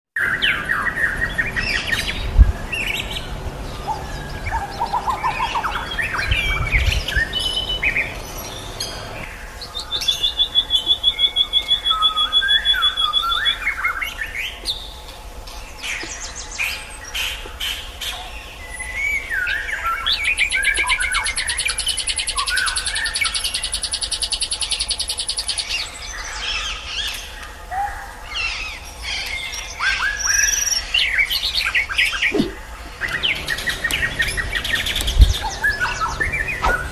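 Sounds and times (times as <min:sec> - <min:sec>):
songbird singing with trills: 0:00.2 - 0:36.9.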